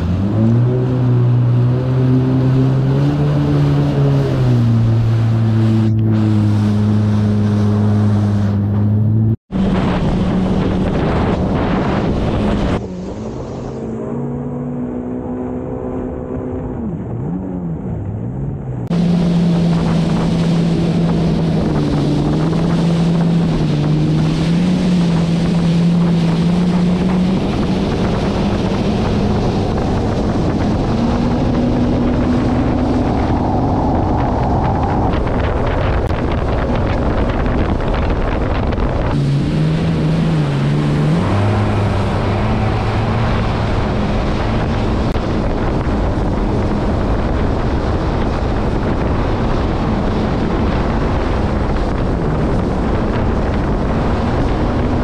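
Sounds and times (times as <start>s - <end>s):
wind buffeting microphone: 0.0s - 18.1s, 18.8s - 55.0s
water rushing and spray: 0.0s - 18.2s, 18.8s - 55.0s
jet ski engine running: 0.0s - 55.0s.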